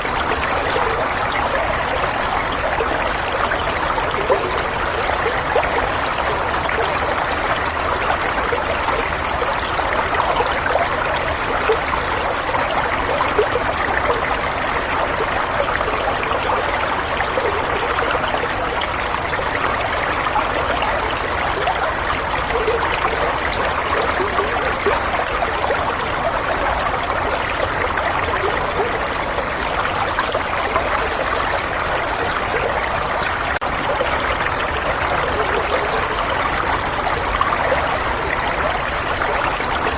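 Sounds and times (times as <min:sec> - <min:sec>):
water running steadily: 0:00.0 - 0:39.9.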